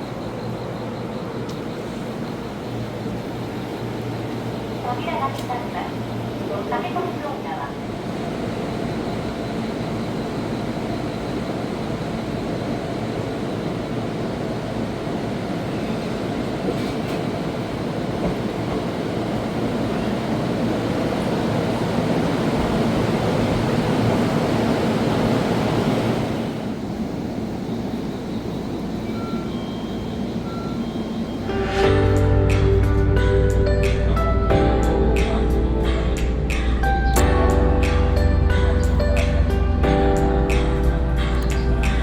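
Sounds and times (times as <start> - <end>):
train doors closing: 0.0 - 34.7
electric train pulling out: 7.8 - 41.9.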